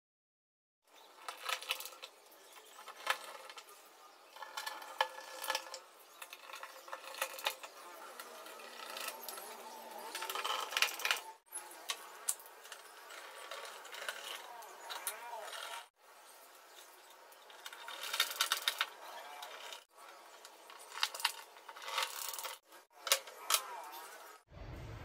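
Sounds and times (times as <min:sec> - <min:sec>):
small hard objects clinking: 0:01.0 - 0:23.8.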